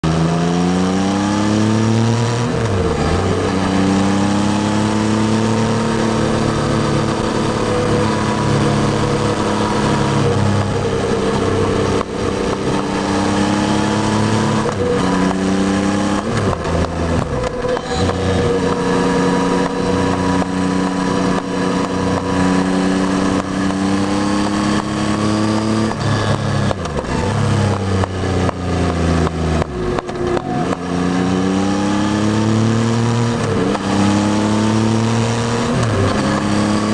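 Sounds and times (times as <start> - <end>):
motorcycle engine under way: 0.0 - 36.9.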